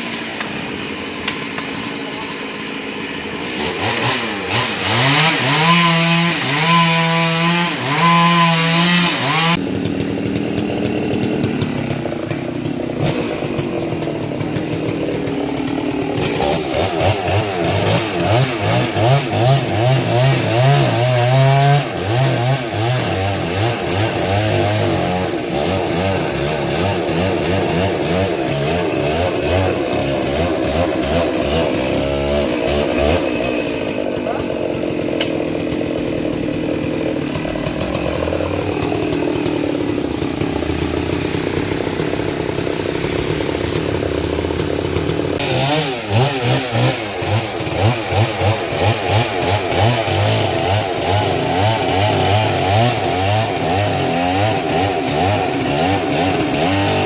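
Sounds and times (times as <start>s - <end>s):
chainsaws revving: 0.0s - 57.0s.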